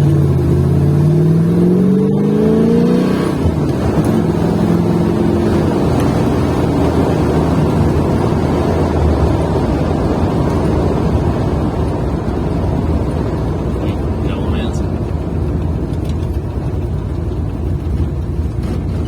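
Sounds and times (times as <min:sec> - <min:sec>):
engine exhaust revving: 0:00.0 - 0:19.0.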